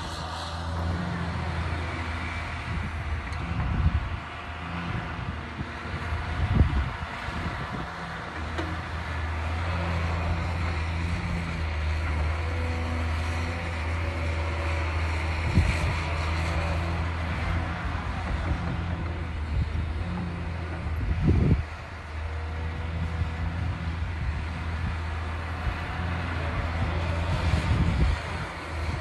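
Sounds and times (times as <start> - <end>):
excavator diesel engine drone: 0.0 - 29.0.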